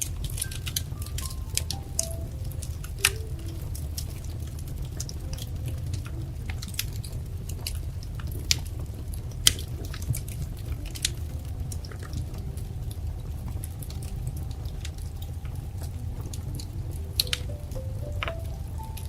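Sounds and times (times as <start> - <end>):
wood fire snaps and pops: 0.0 - 18.7
low rumble of burning fire: 0.0 - 19.0.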